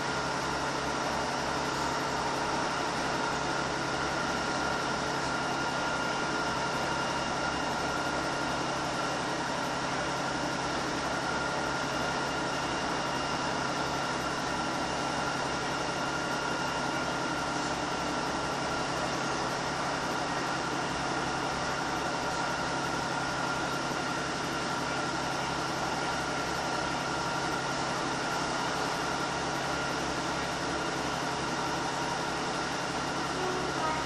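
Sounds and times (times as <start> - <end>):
train diesel engine drone: 0.0 - 34.0.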